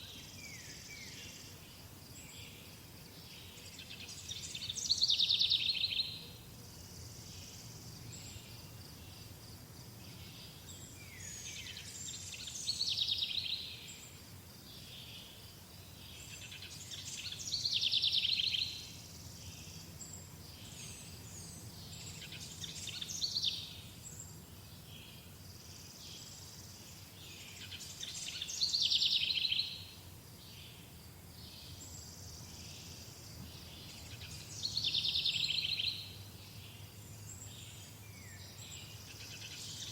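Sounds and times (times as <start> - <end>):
bird singing loud song phrase: 0.0 - 39.9.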